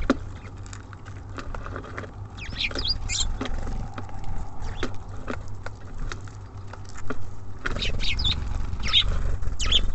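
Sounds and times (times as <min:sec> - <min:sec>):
birds pecking and scrabbling: 0:00.0 - 0:09.9
low steady rumble: 0:00.0 - 0:09.9.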